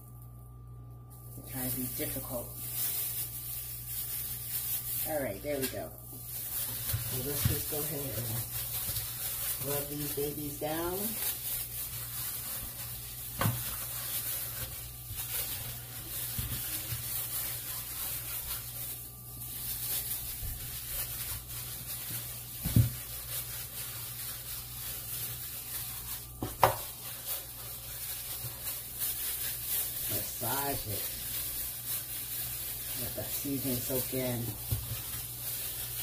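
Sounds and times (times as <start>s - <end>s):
gloved hands rubbing raw steak: 1.5s - 36.0s.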